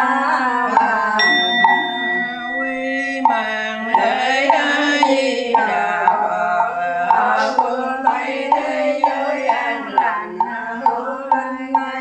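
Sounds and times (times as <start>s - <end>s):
women chanting: 0.0s - 12.0s
high steady ringing tone: 0.8s - 12.0s.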